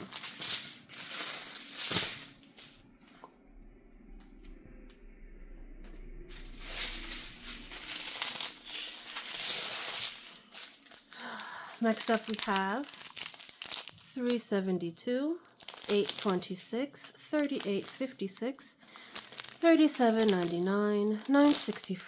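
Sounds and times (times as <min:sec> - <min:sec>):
plastic bags crinkling: 0:00.0 - 0:02.8, 0:06.3 - 0:14.6, 0:15.2 - 0:22.0.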